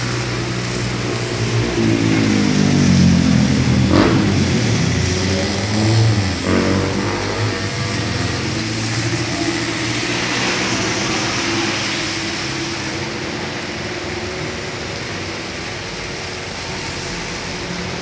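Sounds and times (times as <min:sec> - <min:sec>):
steady hiss of traffic: 0:00.0 - 0:18.0
vehicle engines passing: 0:00.0 - 0:18.0.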